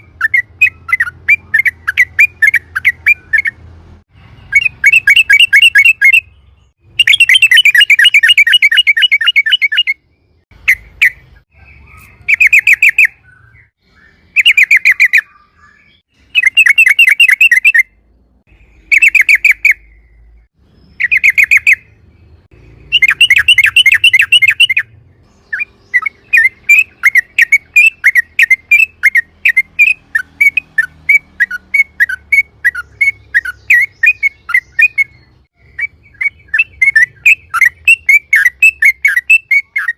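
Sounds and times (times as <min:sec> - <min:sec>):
bird singing rapid notes: 0:00.0 - 0:39.9.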